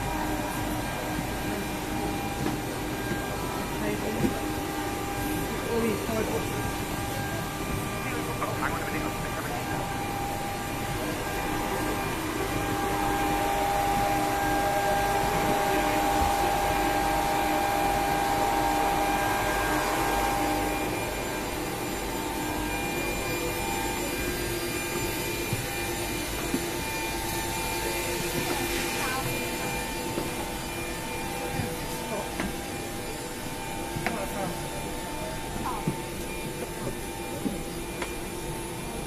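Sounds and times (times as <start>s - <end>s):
steady hums: 0.0s - 39.0s
ventilation fans whirring: 0.0s - 39.0s.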